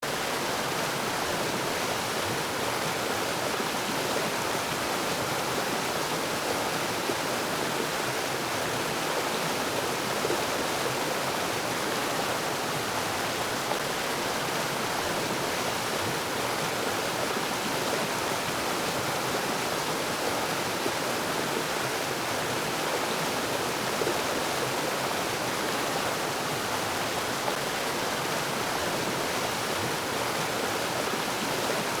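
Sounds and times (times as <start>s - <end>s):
stream flowing over rocks: 0.0s - 32.0s.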